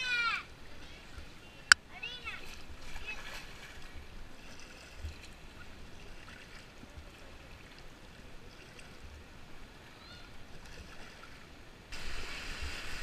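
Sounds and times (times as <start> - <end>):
flowing water: 0.0 - 13.0
paddle splashes: 2.0 - 13.0.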